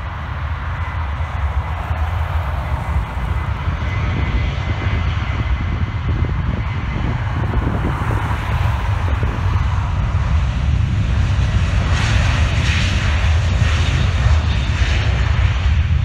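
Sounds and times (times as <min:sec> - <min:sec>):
jet airliner passing: 0:00.0 - 0:16.0
steady low rumble: 0:00.0 - 0:16.0.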